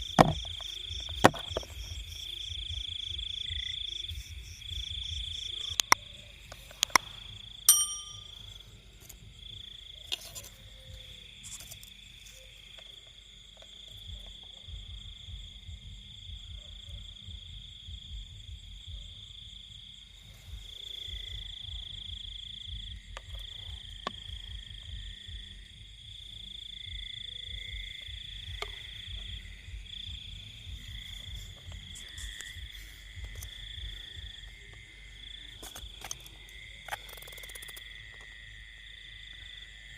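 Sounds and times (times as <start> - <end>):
frogs calling: 0.0 - 39.9
insects trilling: 0.0 - 39.9
lower insect trill: 0.0 - 39.9.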